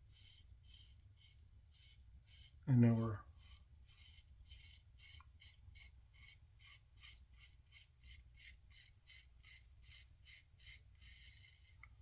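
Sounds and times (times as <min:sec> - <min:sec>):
razor scraping stubble: 0:00.2 - 0:12.0.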